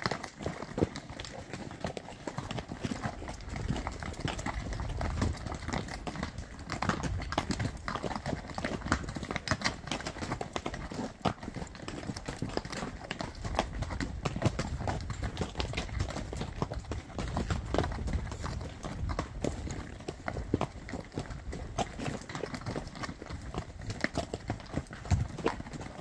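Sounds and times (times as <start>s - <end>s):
hooves clip-clopping on rocky trail: 0.0s - 26.0s.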